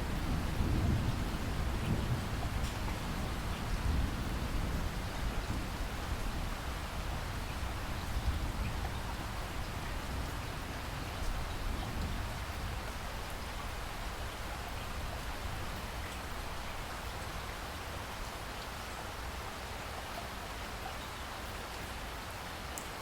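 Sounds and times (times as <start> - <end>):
rain drops ticking: 0.0 - 23.0
steady rain falling: 0.0 - 23.0.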